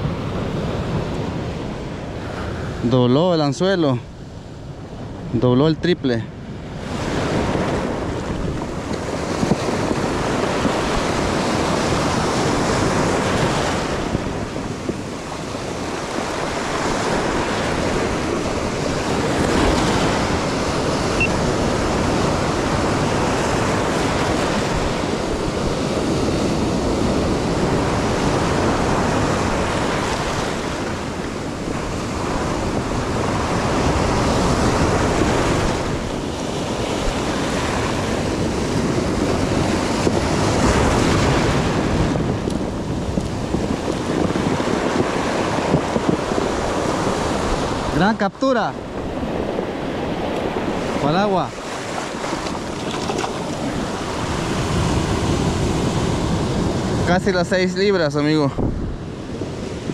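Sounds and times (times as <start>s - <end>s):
surf breaking on stony beach: 6.4s - 59.9s.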